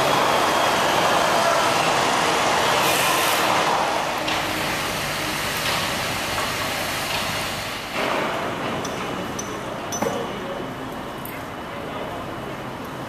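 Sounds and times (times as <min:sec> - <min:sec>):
construction site rushing noise: 0:00.0 - 0:13.0.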